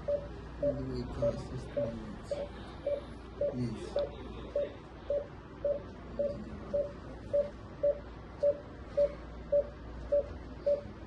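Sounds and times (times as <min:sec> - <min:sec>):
patient monitor pulse beeps: 0:00.0 - 0:11.0.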